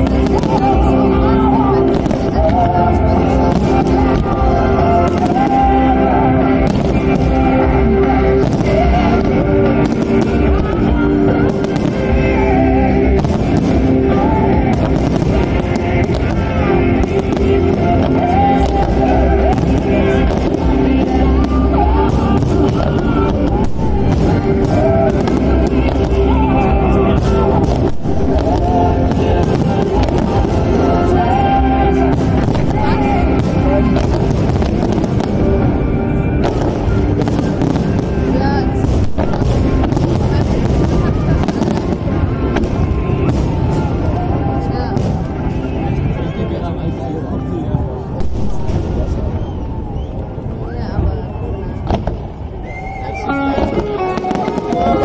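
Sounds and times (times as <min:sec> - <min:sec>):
loud music: 0:00.0 - 0:51.2, 0:52.0 - 0:55.0
fireworks bangs and crackles: 0:00.0 - 0:55.0.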